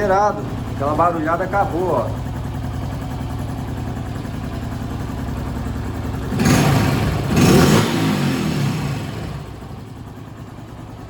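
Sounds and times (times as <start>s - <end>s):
small motorcycle engine idling: 0.0s - 11.0s.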